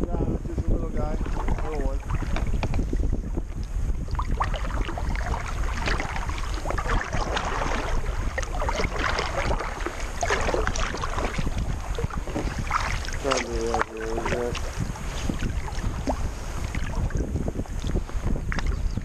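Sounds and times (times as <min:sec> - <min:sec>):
wind rumble on microphone: 0:00.0 - 0:19.0
water splashing and dripping: 0:01.2 - 0:18.8.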